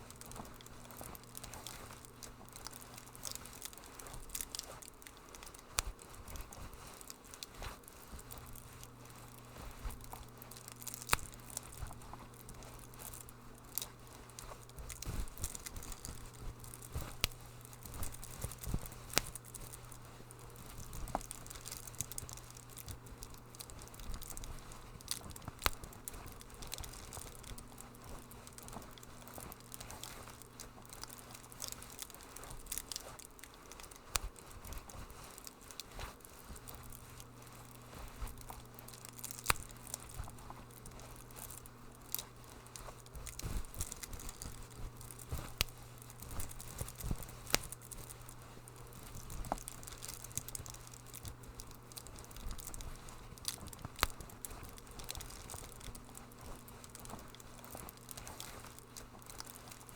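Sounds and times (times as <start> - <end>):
steady low hum: 0.0 - 59.9
wood fire crackling: 0.0 - 59.9.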